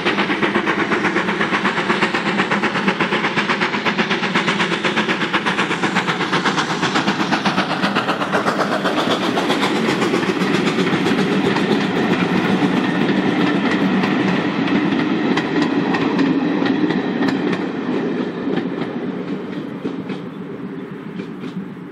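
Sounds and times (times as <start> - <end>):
steam locomotive exhaust beats: 0.0 - 21.9
train wheels clickety-clack: 0.0 - 21.9.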